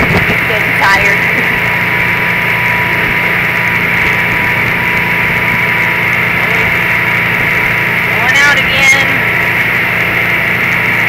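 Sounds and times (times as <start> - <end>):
motorboat engine: 0.0 - 11.0
rush of wind and water: 0.0 - 11.0.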